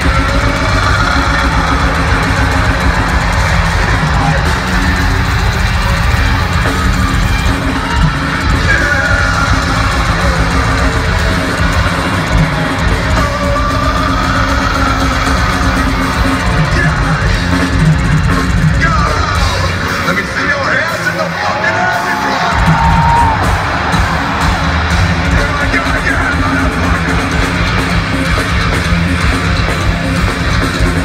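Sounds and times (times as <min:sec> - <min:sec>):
heavy metal band playing live: 0:00.0 - 0:31.0.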